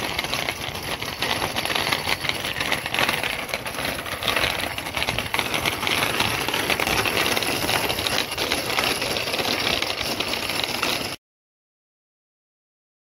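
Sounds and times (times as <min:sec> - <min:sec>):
bicycle rattling over pavers: 0:00.0 - 0:11.2.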